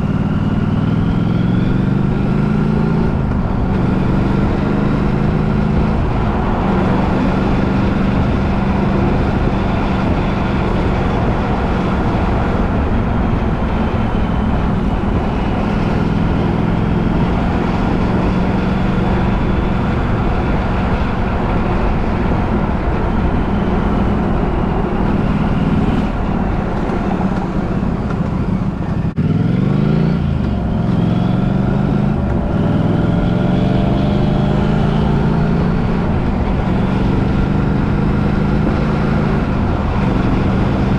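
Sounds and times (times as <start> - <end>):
vehicle driving drone: 0.0 - 40.9.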